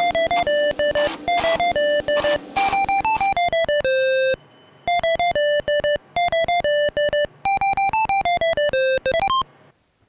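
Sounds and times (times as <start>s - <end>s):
electronic beep tune: 0.0s - 9.4s.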